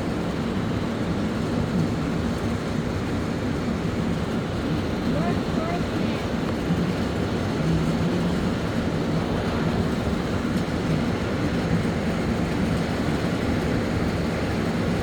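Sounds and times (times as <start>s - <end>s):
rain falling: 0.2s - 15.0s.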